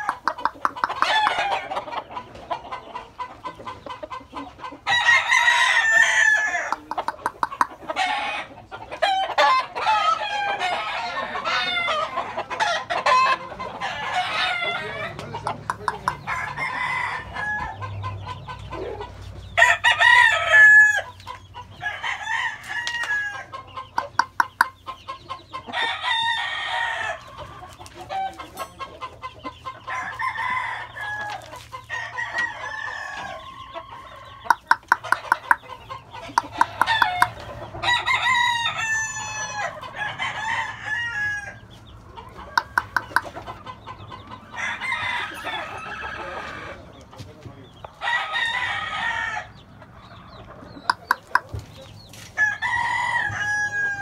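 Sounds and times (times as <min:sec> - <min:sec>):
rooster clucks: 0:00.0 - 0:54.0
roosters crowing: 0:00.0 - 0:54.0.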